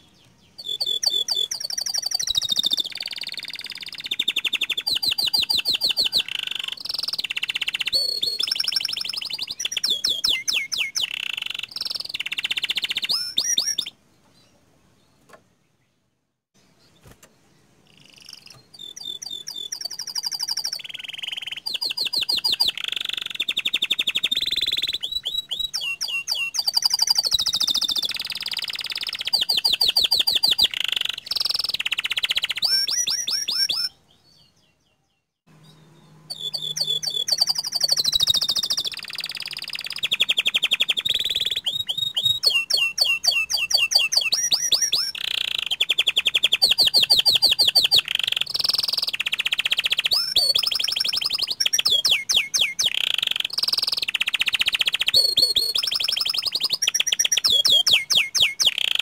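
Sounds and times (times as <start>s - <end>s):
canary singing trills: 0.0s - 15.8s, 16.6s - 59.0s.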